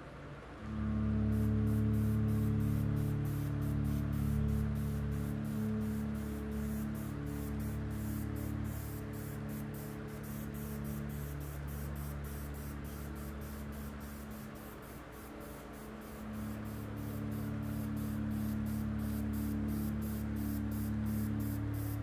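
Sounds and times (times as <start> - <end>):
sustained low chords: 0.6 - 22.0
fast ticking beat: 1.3 - 22.0.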